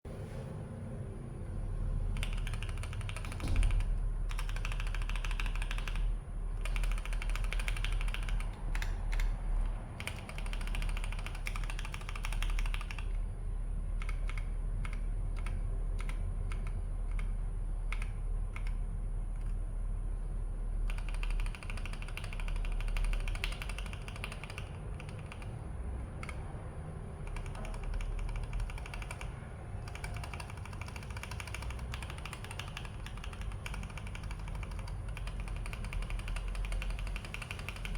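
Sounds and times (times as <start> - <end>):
steady low hum: 0.1 - 37.9
mechanical keyboard typing: 2.1 - 13.3, 13.9 - 19.7, 20.8 - 26.5, 27.1 - 37.9.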